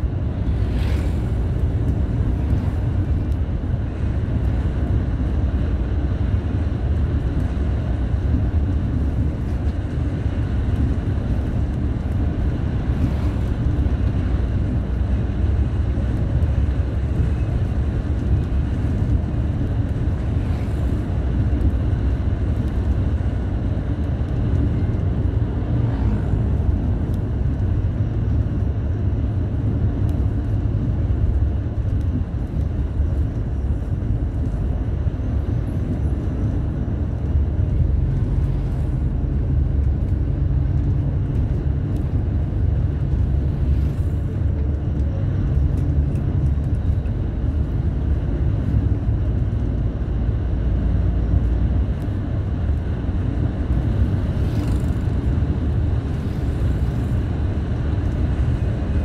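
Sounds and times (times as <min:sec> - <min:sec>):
road noise: 0:00.0 - 0:59.0
vehicle engine drone: 0:00.0 - 0:59.0.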